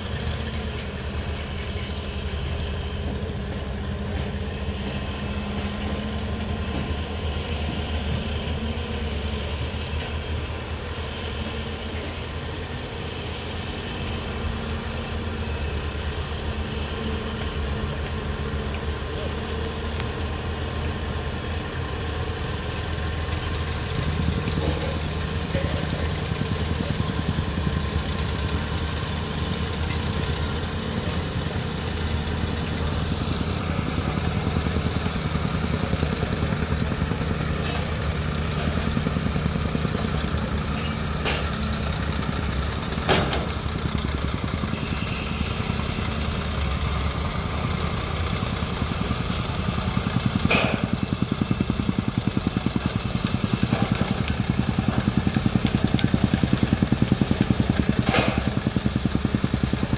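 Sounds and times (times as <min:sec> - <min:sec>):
diesel machinery running: 0:00.0 - 0:59.9
tamping rammer pounding soil: 0:00.0 - 0:59.9.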